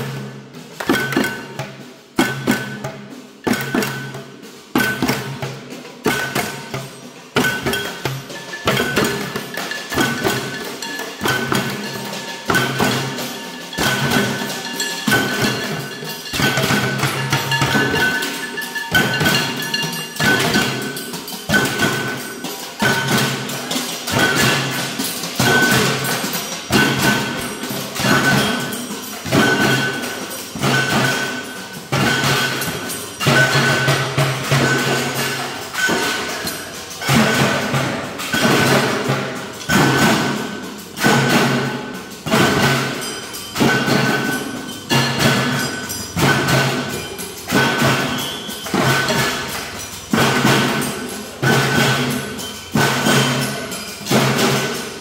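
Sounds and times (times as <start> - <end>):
percussion band playing a beat: 0.0 - 55.0
ringing metallic tone: 6.0 - 55.0.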